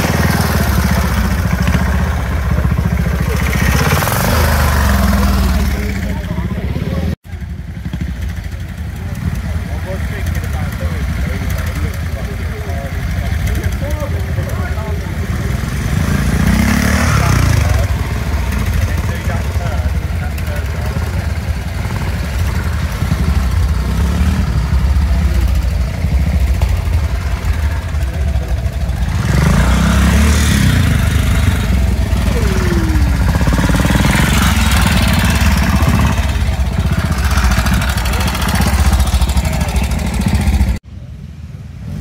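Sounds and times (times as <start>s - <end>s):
motorcycle revving: 0.0s - 40.9s, 41.6s - 42.0s
motorcycle engines throbbing: 0.0s - 42.0s.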